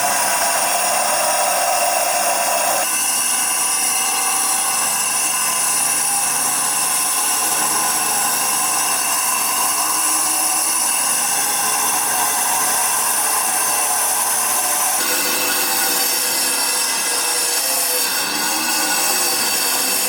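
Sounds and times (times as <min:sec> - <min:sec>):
power tool grinding stone: 0:00.0 - 0:20.0.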